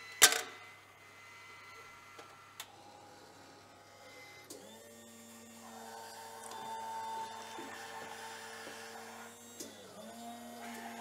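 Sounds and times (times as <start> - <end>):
vending machine mechanical hum: 0.0 - 11.0.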